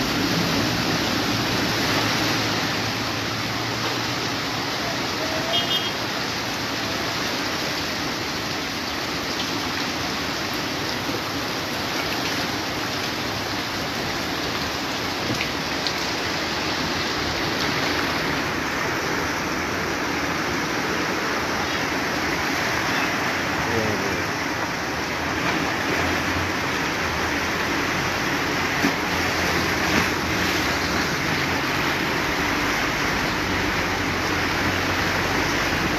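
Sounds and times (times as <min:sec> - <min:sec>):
floodwater rushing across street: 0:00.0 - 0:35.9
heavy rain: 0:00.0 - 0:35.9.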